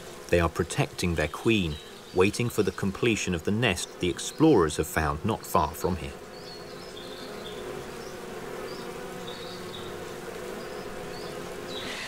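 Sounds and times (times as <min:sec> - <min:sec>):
bee swarm humming: 0:00.0 - 0:12.0.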